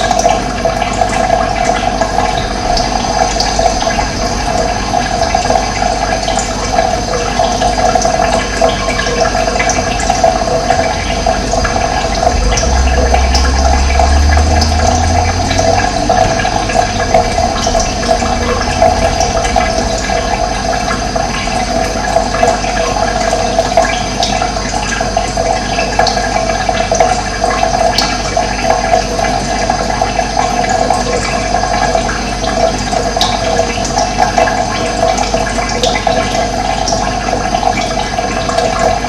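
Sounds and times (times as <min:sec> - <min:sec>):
running water rushing: 0:00.0 - 0:39.0.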